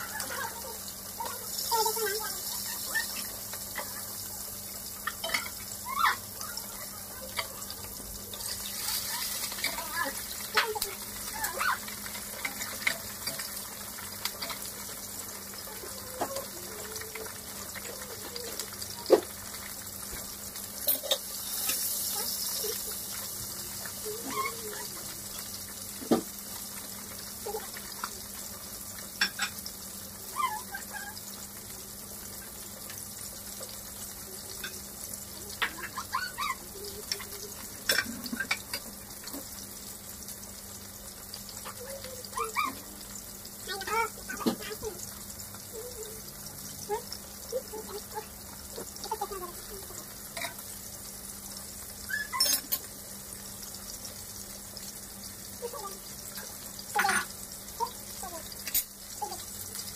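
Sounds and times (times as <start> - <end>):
fish sizzling in hot oil: 0.0 - 59.9
oil crackling and popping: 0.0 - 59.9.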